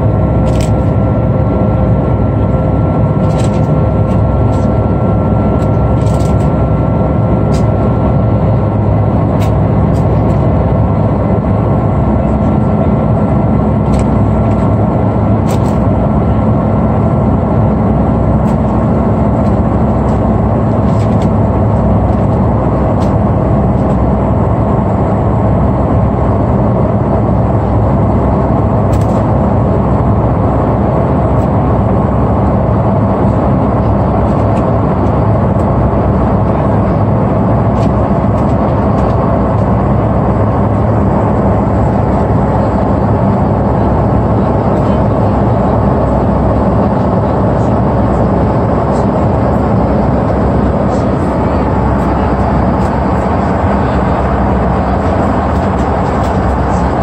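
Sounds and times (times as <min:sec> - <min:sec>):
airliner cabin engine noise: 0:00.0 - 0:57.0.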